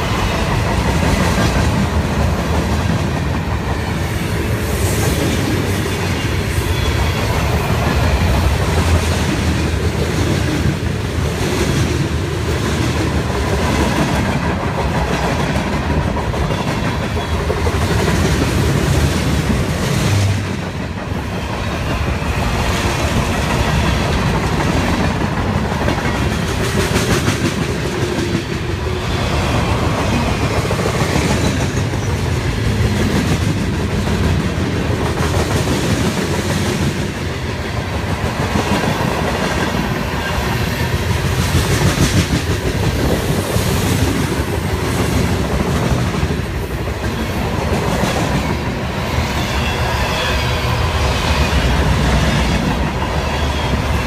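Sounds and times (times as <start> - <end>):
train wheels clickety-clack: 0.0 - 54.0.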